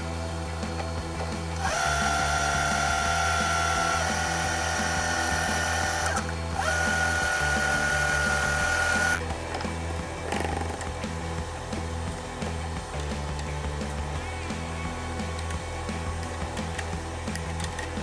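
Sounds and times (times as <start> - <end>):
background music: 0.0 - 18.0
lathe motor whining: 0.0 - 18.0.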